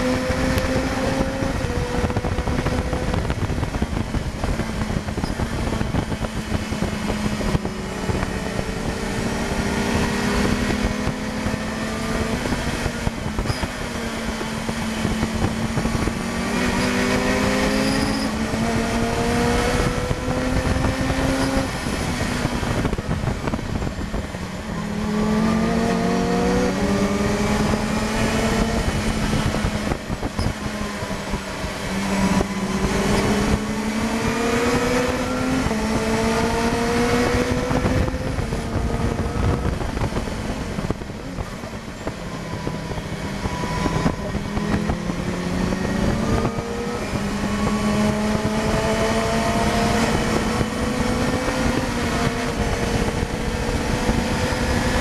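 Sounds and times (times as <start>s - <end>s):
racing car engine revving: 0.0s - 55.0s
wind noise: 0.0s - 55.0s.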